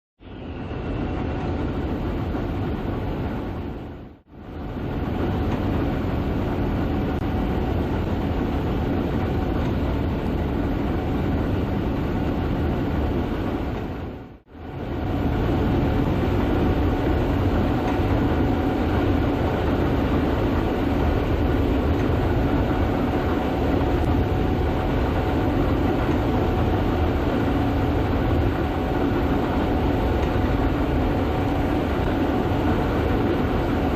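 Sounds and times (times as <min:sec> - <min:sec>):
combine harvester droning: 0:00.2 - 0:33.9.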